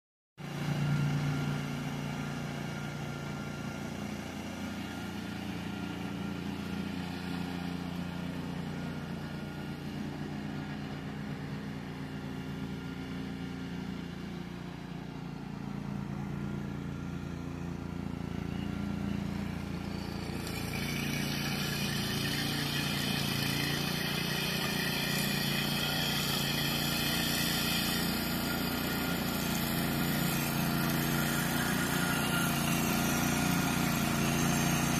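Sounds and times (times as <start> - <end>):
brush mower engines running: 0.4 - 34.9.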